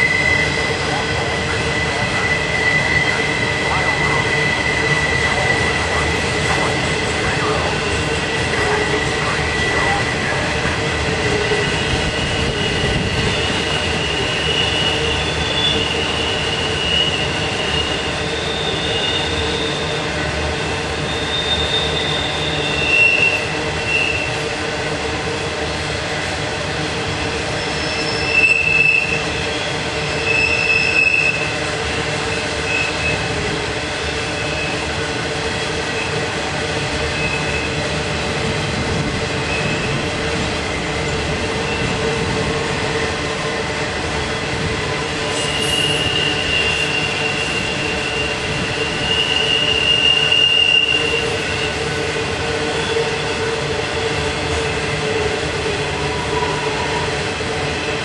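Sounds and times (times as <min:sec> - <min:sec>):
train wheels squealing: 0:00.0 - 0:24.5, 0:27.5 - 0:36.3, 0:36.9 - 0:38.4, 0:39.4 - 0:43.6, 0:44.3 - 0:52.0, 0:52.6 - 0:54.8, 0:55.9 - 0:58.0
freight train rumbling past: 0:00.0 - 0:58.0.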